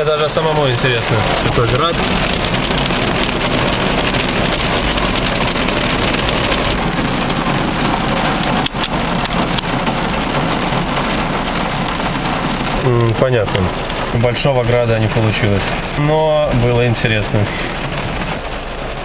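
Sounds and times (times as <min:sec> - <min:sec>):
rain and hail on car: 0:00.0 - 0:19.0.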